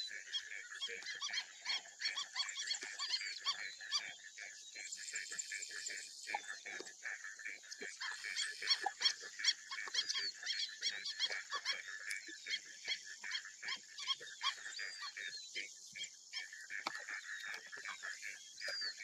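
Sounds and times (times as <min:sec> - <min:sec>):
chirping animal calls: 0:00.0 - 0:19.0.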